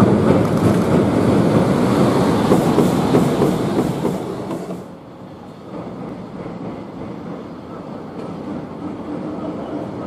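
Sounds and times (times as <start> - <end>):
distant train rumble: 0.0 - 10.0
freight train clattering over bridge: 0.0 - 10.0.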